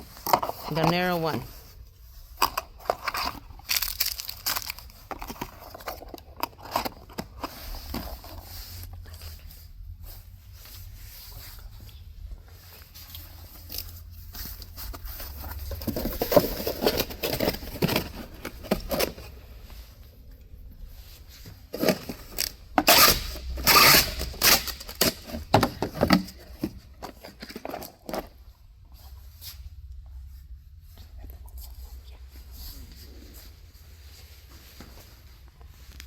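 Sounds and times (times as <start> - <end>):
packaging rustling and scraping: 0.0 - 20.1, 20.8 - 29.6.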